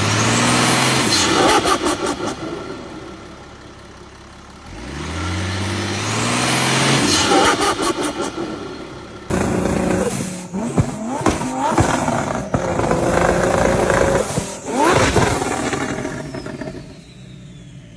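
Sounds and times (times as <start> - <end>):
car engine revving: 0.0 - 3.9, 4.5 - 17.6.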